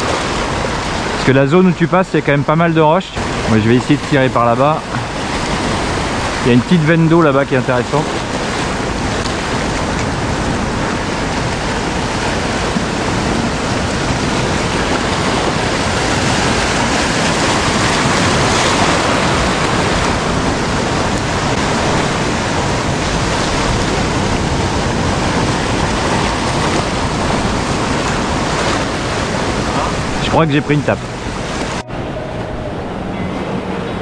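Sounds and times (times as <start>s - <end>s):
surf breaking over rocks: 0.0s - 32.2s.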